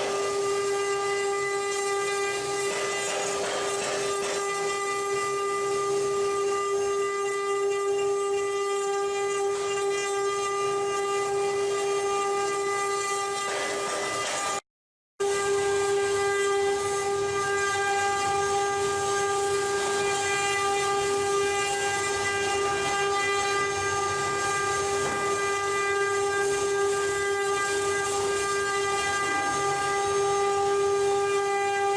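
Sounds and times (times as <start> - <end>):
bit cutting wood hiss: 0.0 - 14.6, 15.8 - 31.9
router spindle whine: 0.0 - 14.6, 15.2 - 31.9.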